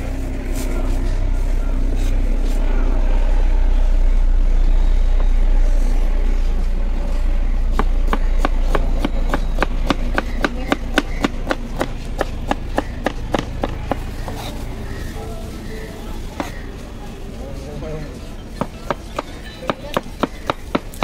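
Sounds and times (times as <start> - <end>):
low steady rumble: 0.0 - 18.6.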